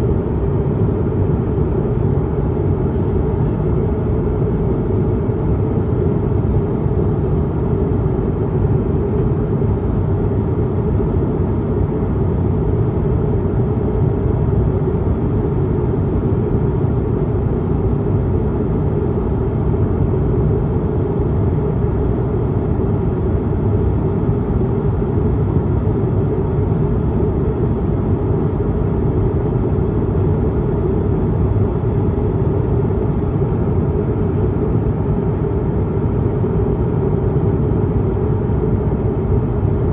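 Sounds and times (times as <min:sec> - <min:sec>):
airplane cabin rumble: 0:00.0 - 0:20.4, 0:24.4 - 0:39.9.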